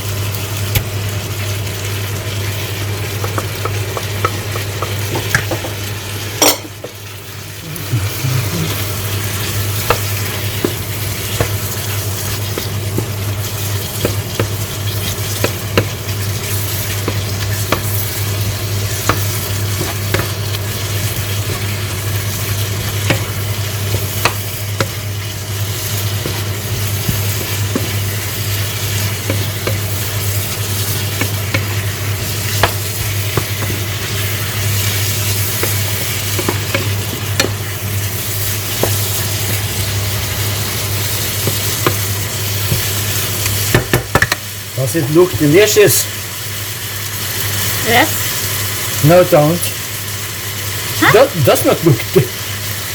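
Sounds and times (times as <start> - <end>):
food sizzling in a frying pan: 0.0 - 52.9.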